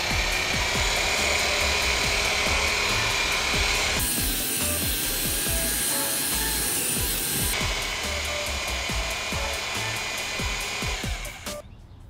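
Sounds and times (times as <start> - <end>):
mortar mixer motor churning: 0.0 - 11.6.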